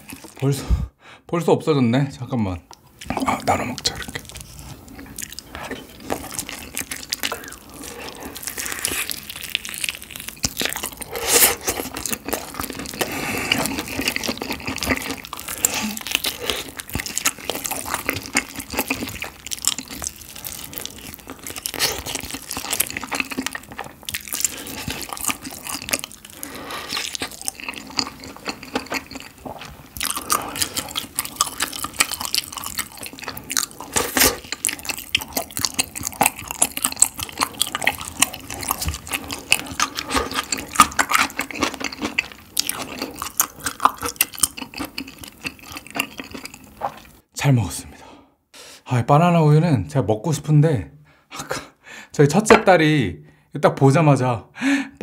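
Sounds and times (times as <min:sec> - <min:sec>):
chewing and crunching fried chicken: 0:00.0 - 0:00.5, 0:02.7 - 0:47.3
wet sticky mouth sounds: 0:03.0 - 0:47.2.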